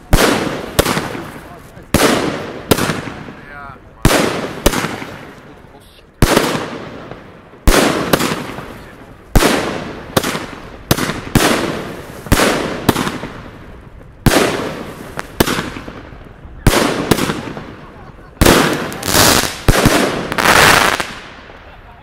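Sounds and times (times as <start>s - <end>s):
fireworks bangs with hiss: 0.0s - 21.7s.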